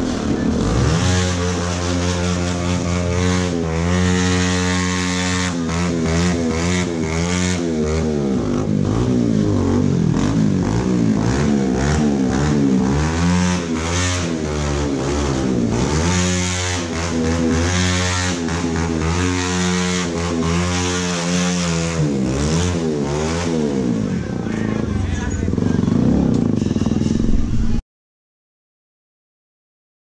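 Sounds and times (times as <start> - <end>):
motorcycle engine revving: 0.0 - 27.8.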